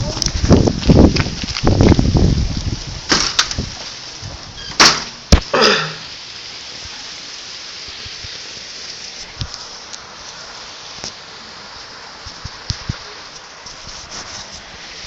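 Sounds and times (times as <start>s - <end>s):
hail falling: 0.1s - 13.5s.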